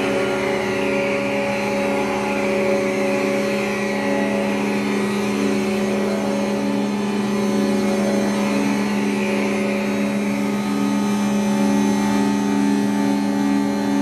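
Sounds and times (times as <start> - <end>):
low droning tones with hiss: 0.0 - 14.0.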